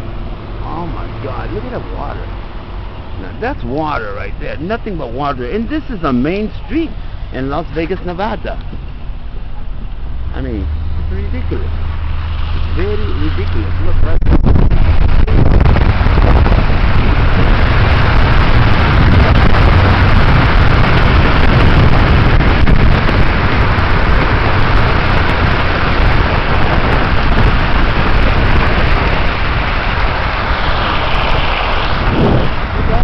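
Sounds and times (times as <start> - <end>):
tyres rushing through water: 0.0 - 33.0
wind buffeting microphone: 0.0 - 33.0.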